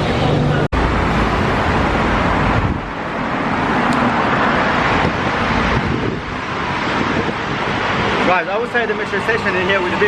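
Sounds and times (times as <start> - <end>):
rushing urban noise: 0.0 - 10.0.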